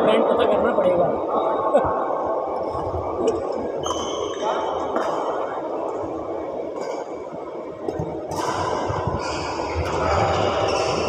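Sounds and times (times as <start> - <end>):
indoor hall background noise: 0.0 - 11.0.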